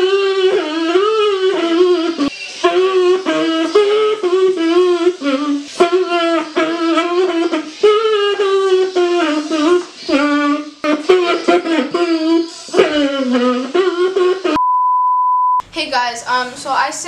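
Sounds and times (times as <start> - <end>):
electric kazoo buzzing a tune: 0.0 - 14.6.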